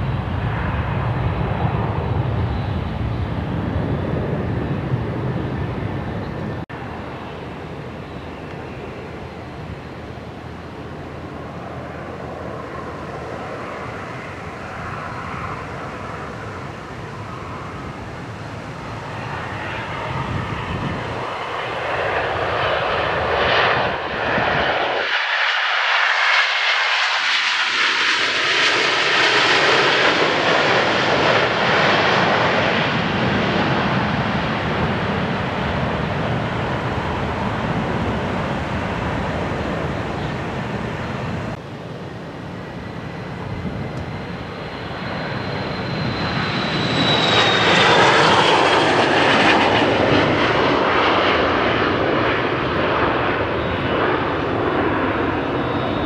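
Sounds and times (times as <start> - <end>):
jet roar landing: 0.0 - 56.0.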